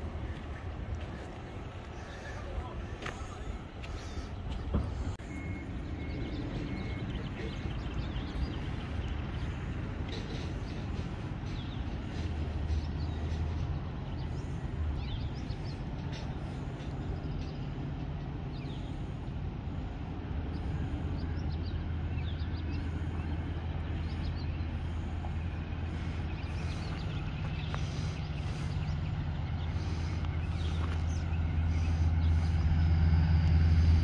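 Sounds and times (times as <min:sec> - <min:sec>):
diesel locomotive engine rumble: 0:00.0 - 0:34.0.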